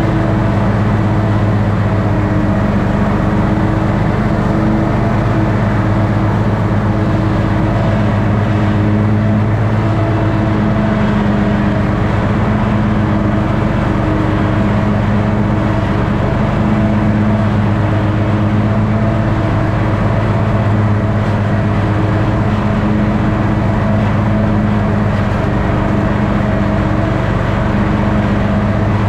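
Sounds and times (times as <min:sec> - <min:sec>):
riding mower engine droning: 0:00.0 - 0:29.0.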